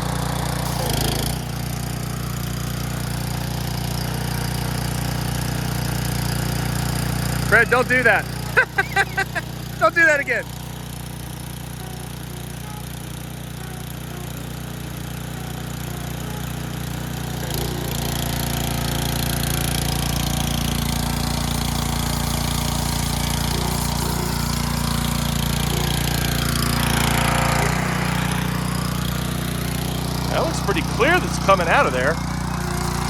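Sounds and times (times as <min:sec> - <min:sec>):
water forced through engine block: 0:00.0 - 0:08.7, 0:09.4 - 0:33.0
pressure washer running: 0:00.0 - 0:33.0.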